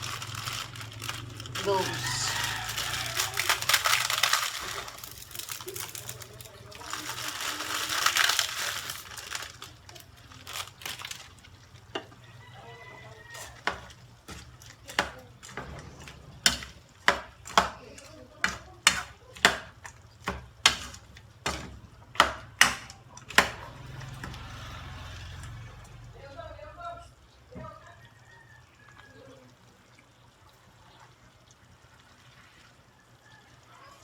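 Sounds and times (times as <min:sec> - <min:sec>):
sizzling in a pan: 0:00.0 - 0:34.0.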